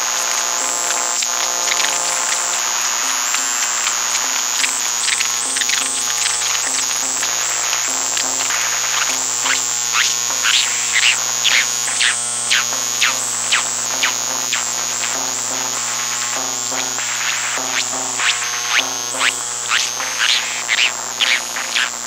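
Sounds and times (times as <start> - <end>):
high electronic whine jumping pitches: 2.2 - 22.0
steady low hum: 2.6 - 22.0.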